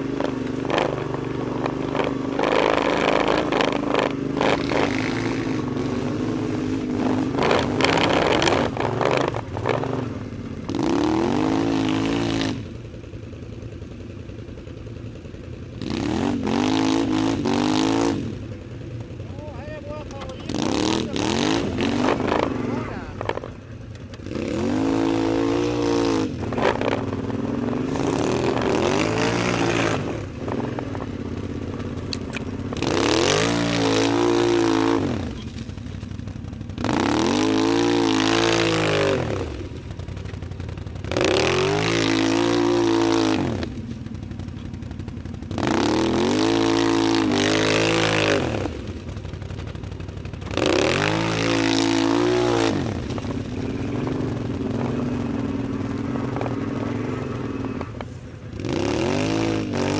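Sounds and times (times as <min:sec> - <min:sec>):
atv engine revving and idling: 0:00.0 - 0:59.9.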